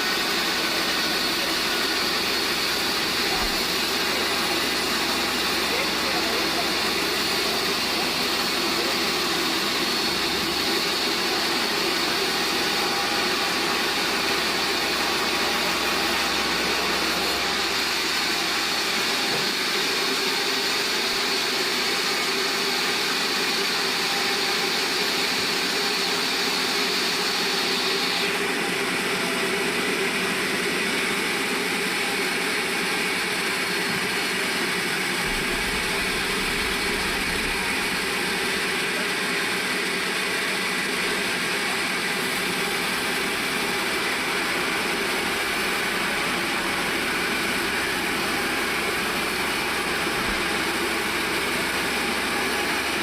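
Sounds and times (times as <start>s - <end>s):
band saw cutting log: 0.0s - 53.0s
high machine whine: 0.0s - 53.0s.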